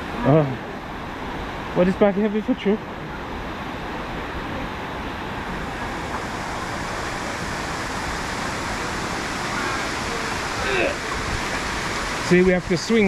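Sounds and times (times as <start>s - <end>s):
water rushing over rocks: 0.0s - 13.0s
waterfall: 0.0s - 13.0s.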